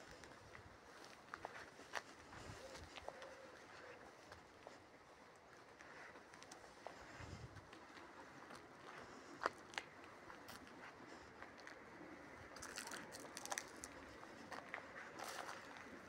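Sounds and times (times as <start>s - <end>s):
footsteps on asphalt: 0.2s - 11.8s, 12.6s - 16.0s.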